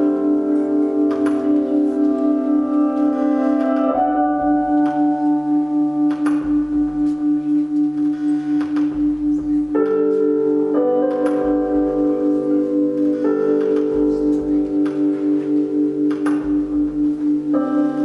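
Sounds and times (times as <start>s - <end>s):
ambient instrumental music: 0.0s - 18.0s.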